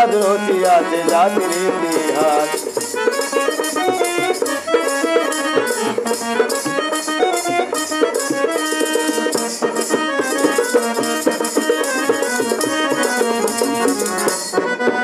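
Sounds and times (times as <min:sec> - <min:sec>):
folk melody: 0:00.0 - 0:15.0
steady percussion beat: 0:00.0 - 0:15.0.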